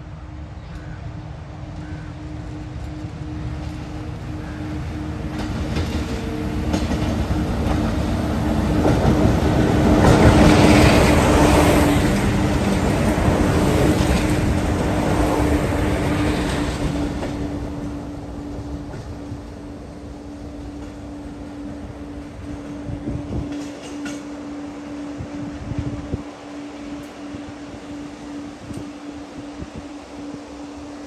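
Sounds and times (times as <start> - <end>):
electric locomotive hum: 0.0 - 31.0
freight train rumbling: 0.0 - 31.0.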